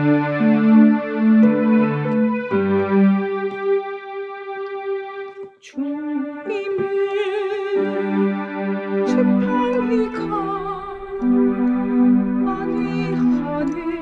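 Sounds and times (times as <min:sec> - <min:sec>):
electronic keyboard playing hymn: 0:00.0 - 0:14.0.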